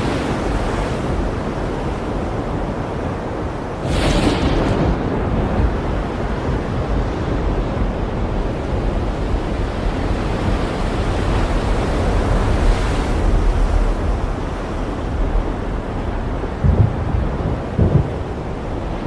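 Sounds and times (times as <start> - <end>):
surf washing onto shore: 0.0 - 19.0
wind buffeting microphone: 0.0 - 19.0.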